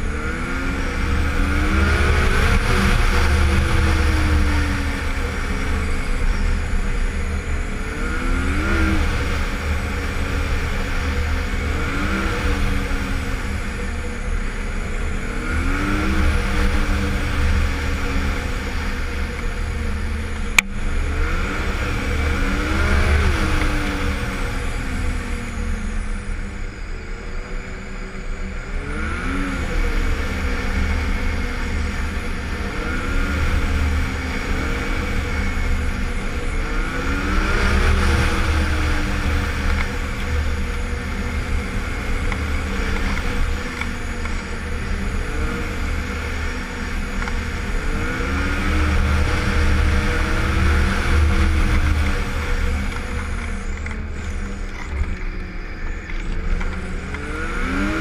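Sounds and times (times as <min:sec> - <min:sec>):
snowmobile engine revving: 0:00.0 - 0:58.0
wind rumble: 0:00.0 - 0:58.0.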